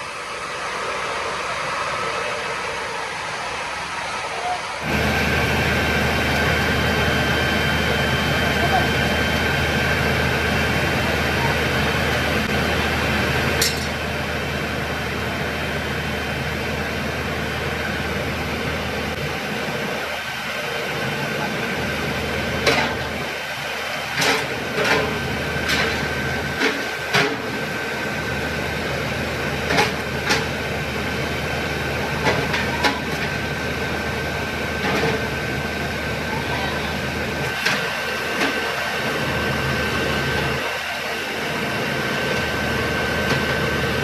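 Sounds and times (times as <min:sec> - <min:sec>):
workshop machinery humming: 0:00.0 - 0:44.0.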